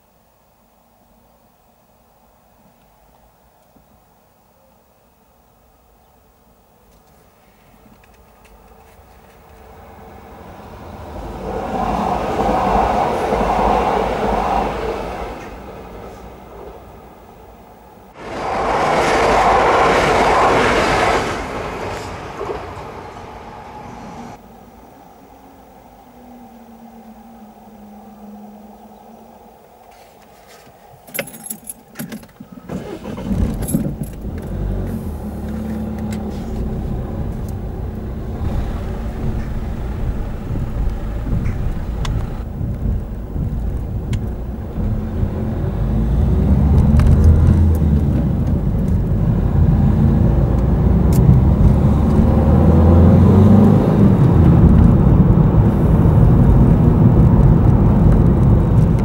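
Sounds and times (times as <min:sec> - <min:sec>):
car engine and tyre noise: 0:06.7 - 0:59.0.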